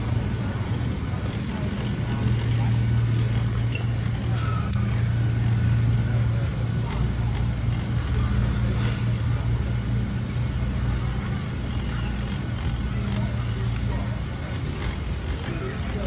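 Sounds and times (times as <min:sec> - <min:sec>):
low hum of store interior: 0:00.0 - 0:16.0
shopping cart rolling on concrete: 0:00.0 - 0:16.0.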